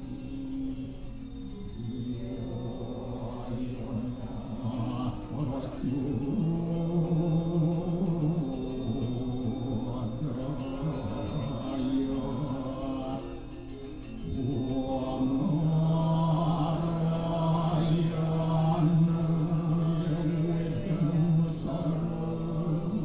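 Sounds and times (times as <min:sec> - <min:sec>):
group chanting prayers: 0:00.0 - 0:23.0.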